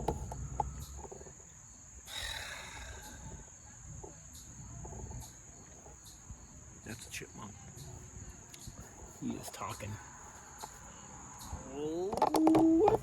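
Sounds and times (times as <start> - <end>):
chipmunk chipping: 0.0 - 13.0
high insect drone: 0.0 - 13.0.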